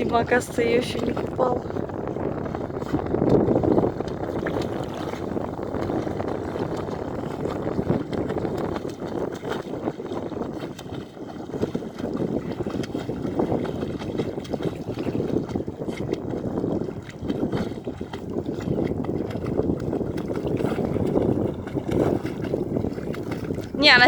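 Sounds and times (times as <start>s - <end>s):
sea water sloshing and splashing: 0.0s - 24.0s
wind buffeting microphone: 0.0s - 24.0s.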